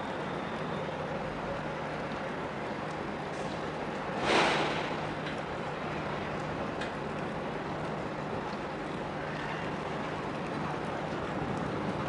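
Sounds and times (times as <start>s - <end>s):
harbour rumble and hiss: 0.0s - 12.0s.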